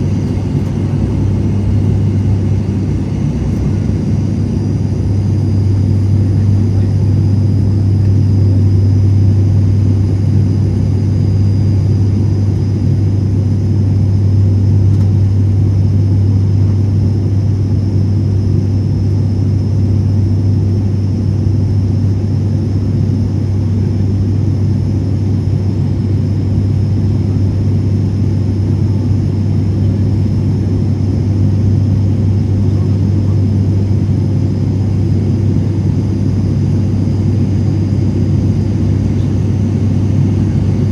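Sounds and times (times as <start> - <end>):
propeller and engine drone: 0.0 - 40.9.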